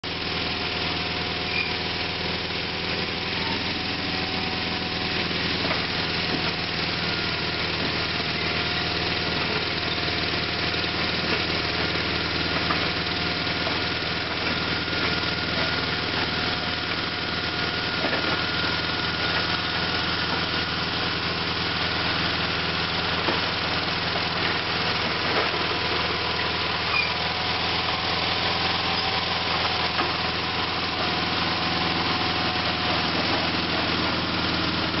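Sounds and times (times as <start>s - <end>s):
tractor engine running: 0.0s - 35.0s
blade pushing dirt: 2.9s - 35.0s.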